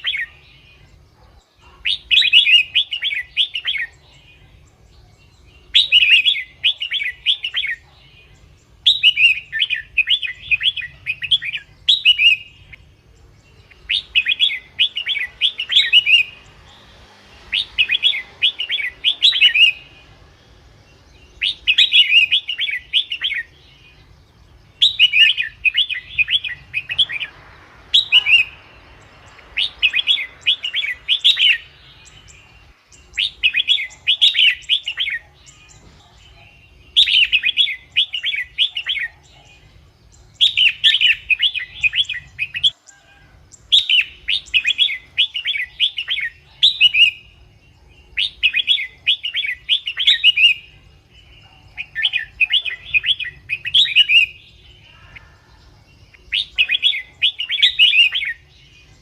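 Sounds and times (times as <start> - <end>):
bird singing warbling phrases: 0.0 - 59.0.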